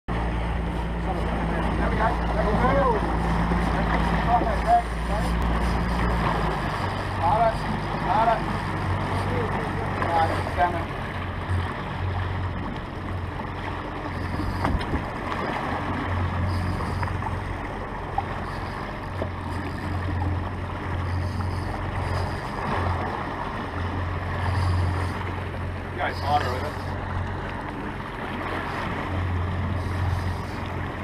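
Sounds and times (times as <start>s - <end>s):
outboard motor humming: 0.1s - 31.0s
water washing past hull: 0.1s - 31.0s
wind buffeting microphone: 0.2s - 31.0s.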